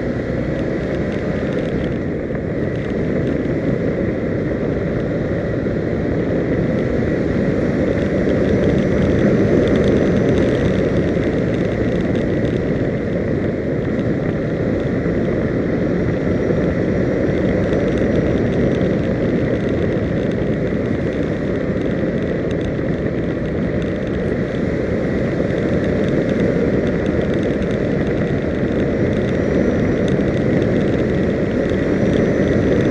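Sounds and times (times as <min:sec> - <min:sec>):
road noise: 0:00.0 - 0:32.9
wind rush: 0:00.0 - 0:32.9.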